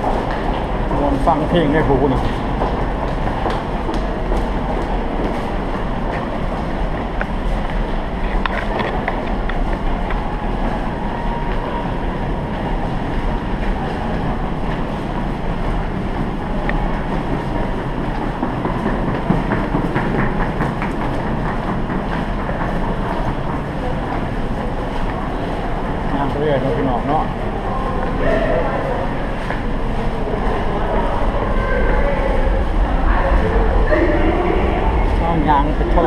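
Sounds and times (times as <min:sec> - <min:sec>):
subway train rumbling and rattling: 0:00.0 - 0:36.0.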